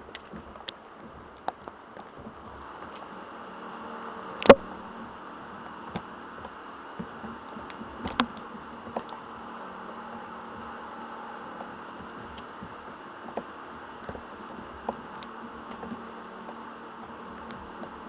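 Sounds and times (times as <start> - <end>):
static crackles and pops: 0.0 - 18.0.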